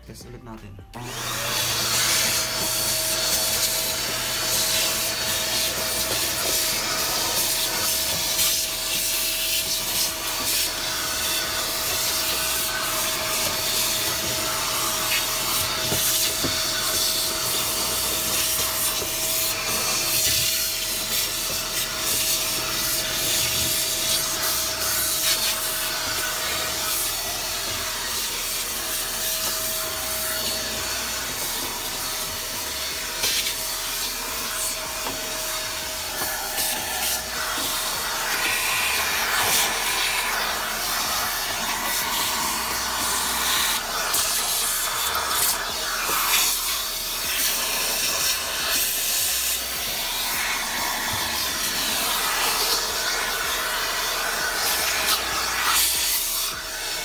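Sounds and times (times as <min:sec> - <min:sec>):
vacuum cleaner running: 0:00.8 - 0:57.0.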